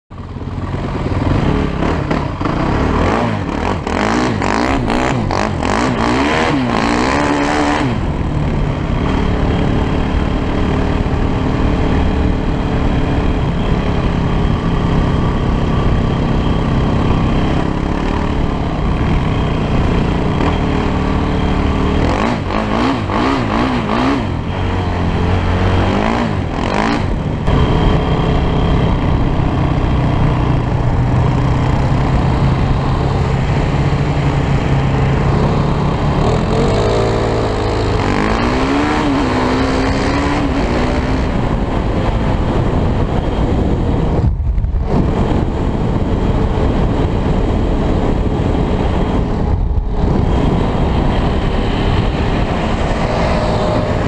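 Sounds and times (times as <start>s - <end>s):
atv engine revving: 0.2s - 54.0s.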